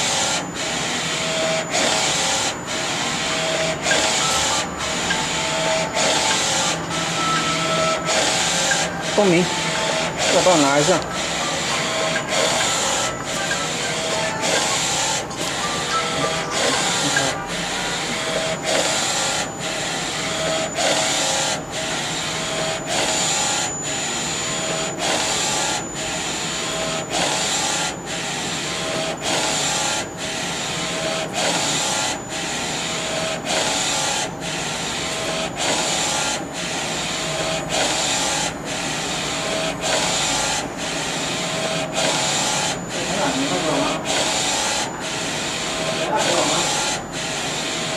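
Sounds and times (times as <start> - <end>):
printer carriage whirring: 0.0 - 47.9.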